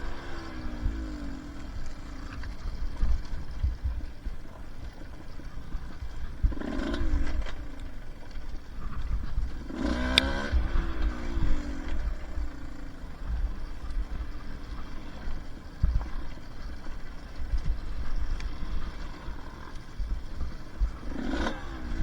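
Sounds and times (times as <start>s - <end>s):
two-stroke dirt bike revving: 0.0s - 22.0s.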